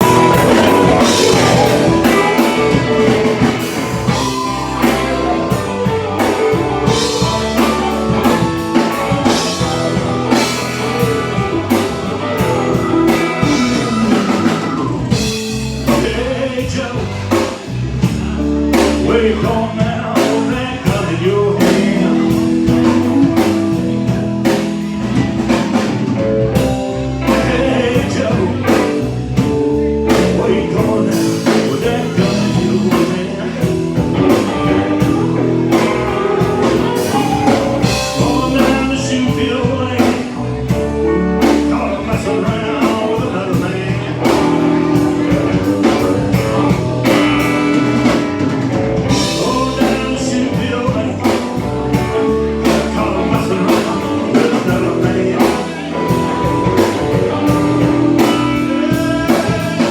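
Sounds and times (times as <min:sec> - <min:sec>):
blues-rock band playing: 0:00.0 - 0:59.9
man singing: 0:00.0 - 0:59.9.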